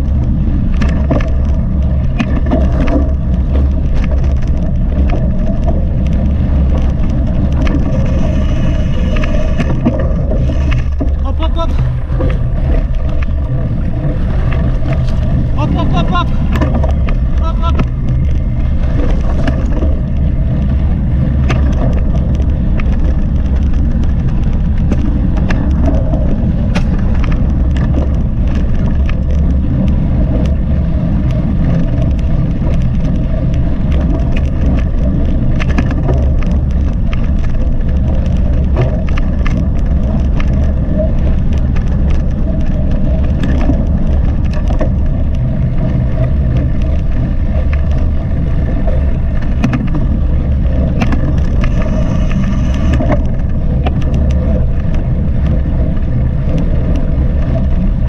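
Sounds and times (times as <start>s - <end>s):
bike clicking and rattling: 0.0s - 58.0s
wind rumble on microphone: 0.0s - 58.0s.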